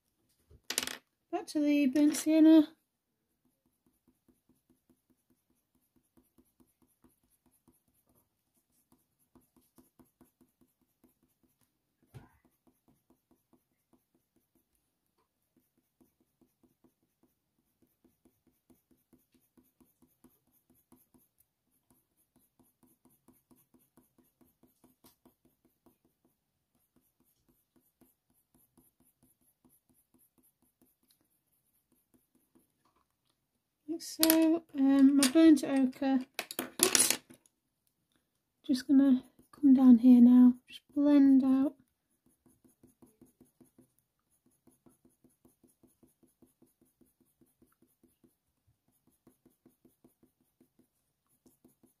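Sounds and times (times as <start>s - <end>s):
pencil scratching on paper: 1.6s - 33.2s, 38.7s - 52.0s.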